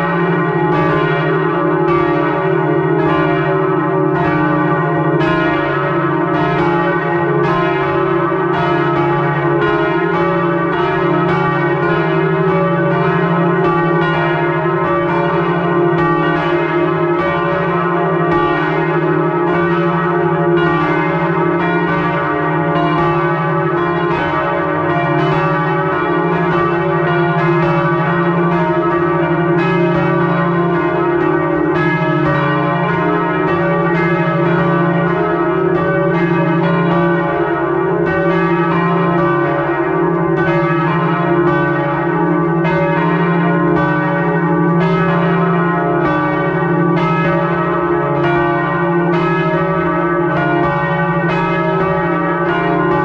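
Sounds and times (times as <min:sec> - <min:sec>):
church bells ringing in peal: 0:00.0 - 0:53.0.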